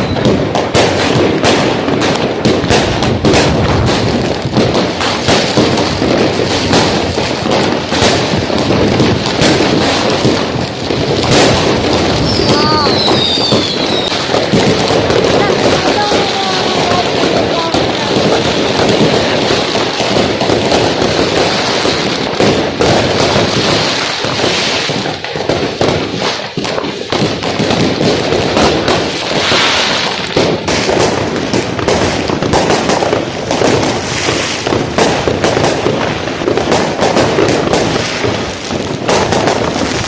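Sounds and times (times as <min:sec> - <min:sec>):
fireworks and firecrackers banging: 0:00.0 - 0:40.0.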